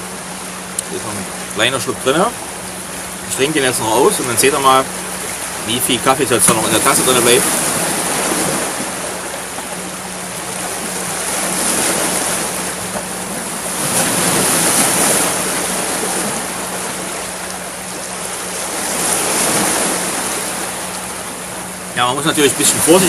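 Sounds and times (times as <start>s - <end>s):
surf washing over rocky shore: 0.0s - 23.0s.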